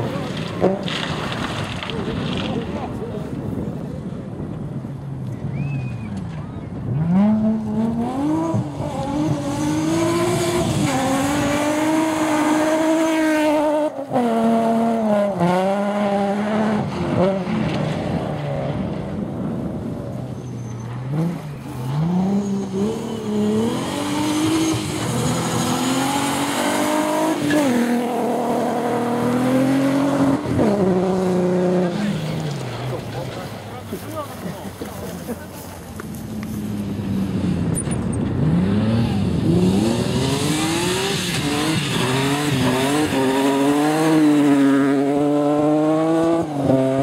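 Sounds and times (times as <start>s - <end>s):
rally car engines revving: 0.0s - 47.0s.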